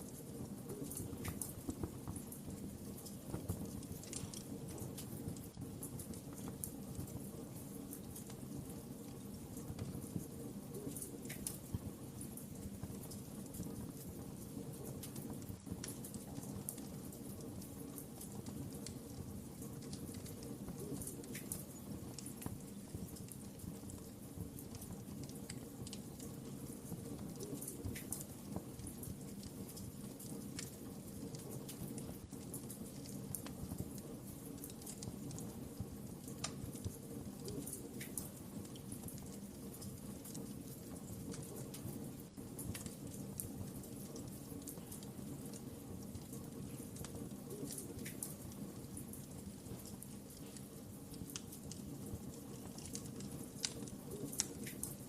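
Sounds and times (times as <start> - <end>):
low rumble of burning logs: 0.0 - 55.0
wood fire crackling: 0.0 - 55.0.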